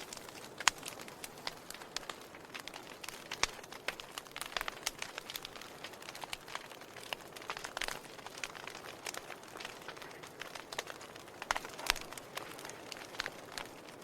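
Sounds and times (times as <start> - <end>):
firewood crackling and popping: 0.0 - 14.0.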